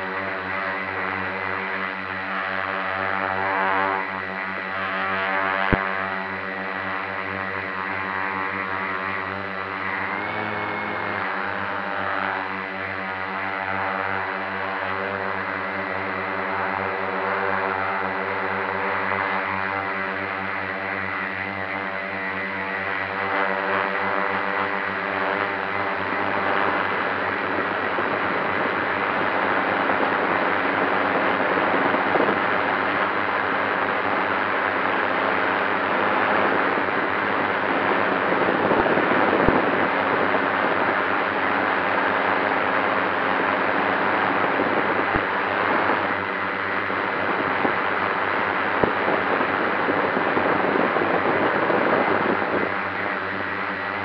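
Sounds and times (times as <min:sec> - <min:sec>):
drone propellers rushing: 0:00.0 - 0:19.7, 0:22.3 - 0:54.0
wind: 0:00.0 - 0:54.0.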